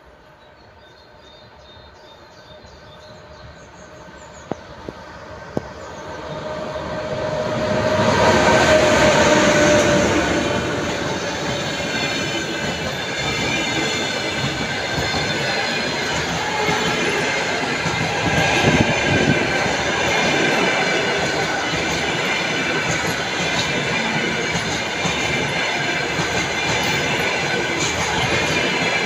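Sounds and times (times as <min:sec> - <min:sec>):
electric locomotive passing: 0:00.0 - 0:29.0.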